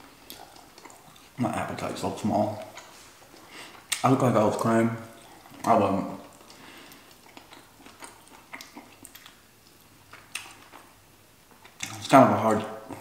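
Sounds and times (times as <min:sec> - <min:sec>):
faint chewing with mouth clicks: 0:00.0 - 0:04.2, 0:05.0 - 0:12.2.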